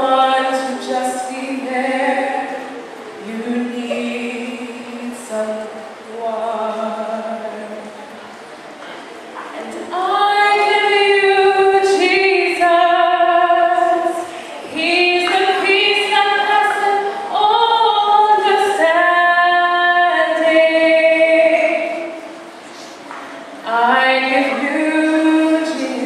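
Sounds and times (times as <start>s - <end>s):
woman singing slow song: 0.0s - 8.0s, 9.8s - 22.3s, 23.6s - 26.0s.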